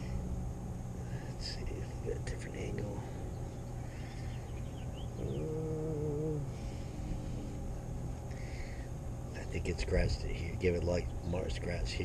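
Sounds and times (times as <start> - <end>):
wavering hum-like tone: 0.0 - 11.5.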